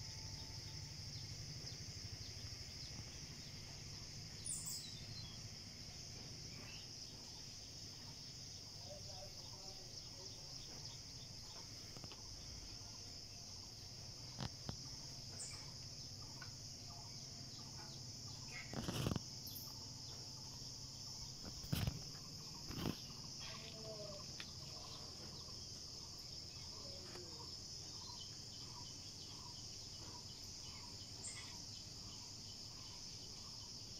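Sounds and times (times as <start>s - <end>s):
insect chorus: 0.0s - 33.9s.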